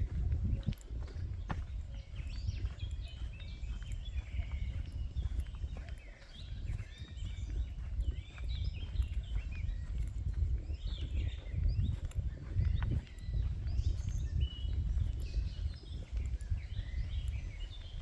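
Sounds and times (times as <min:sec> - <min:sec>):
birds singing and chirping: 0:00.0 - 0:18.0.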